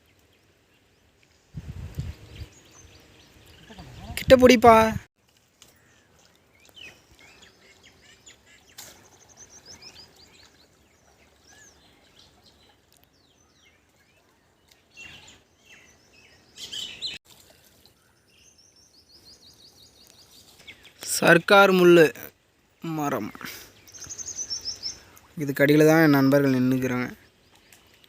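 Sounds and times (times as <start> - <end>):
birds chirping: 0.0 - 5.1, 5.7 - 28.0
outdoor background noise: 0.0 - 28.0.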